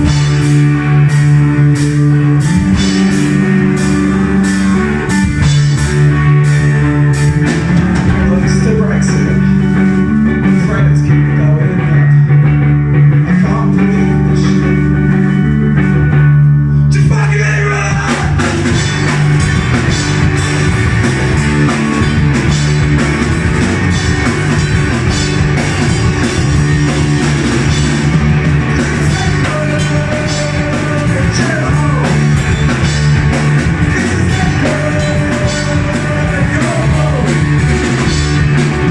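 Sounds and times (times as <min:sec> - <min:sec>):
drum kit: 0:00.0 - 0:12.7, 0:13.3 - 0:38.9
electric guitar: 0:00.0 - 0:38.9
rock band playing: 0:00.0 - 0:38.9.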